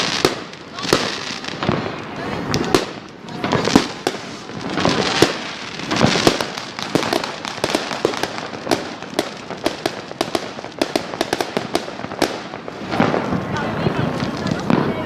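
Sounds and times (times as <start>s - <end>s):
fireworks bangs and crackling pops: 0.0s - 15.0s.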